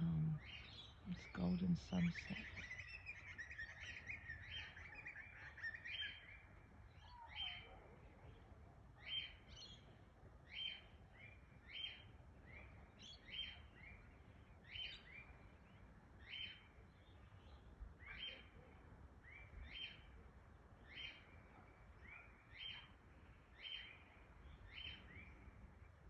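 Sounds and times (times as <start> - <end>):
birds calling faintly: 0.0 - 26.0.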